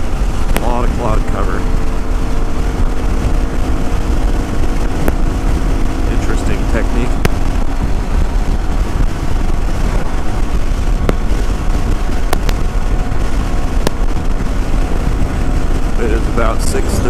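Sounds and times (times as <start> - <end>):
motorcycle engine running: 0.0 - 17.0
wind rumble on microphone: 0.0 - 17.0.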